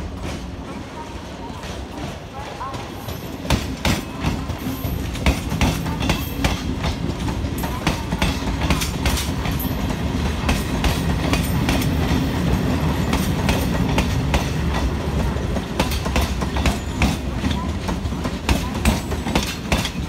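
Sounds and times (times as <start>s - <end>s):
electric train rumbling past: 0.0s - 20.0s.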